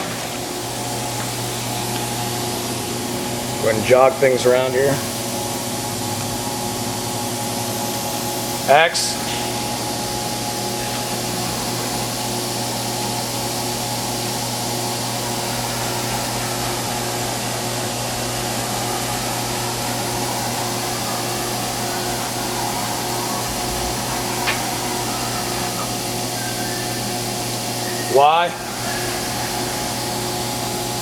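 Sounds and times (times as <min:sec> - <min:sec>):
axis drive humming and whining: 0:00.0 - 0:31.0
machine running noise: 0:00.0 - 0:31.0.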